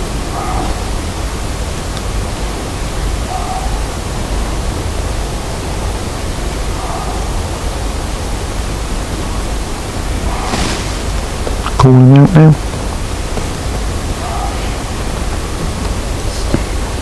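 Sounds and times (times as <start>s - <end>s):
steady loud hiss: 0.0s - 17.0s.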